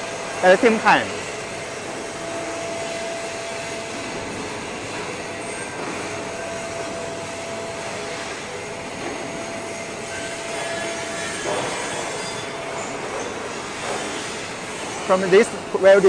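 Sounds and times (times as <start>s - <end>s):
thin steady whine: 0.0s - 16.0s
workshop machinery noise: 0.0s - 16.0s.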